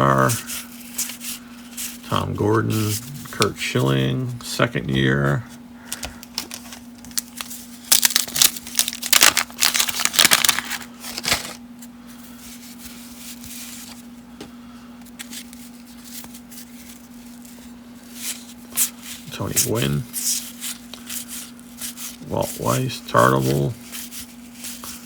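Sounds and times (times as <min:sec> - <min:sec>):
steady low hum: 0:00.0 - 0:25.0
cards rustling and scraping: 0:00.2 - 0:04.1, 0:05.9 - 0:14.1, 0:15.0 - 0:25.0.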